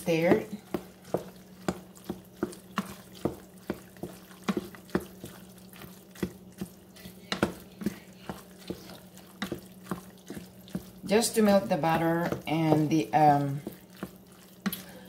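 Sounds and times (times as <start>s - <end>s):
wet squelching of stirred macaroni: 0.0s - 15.0s.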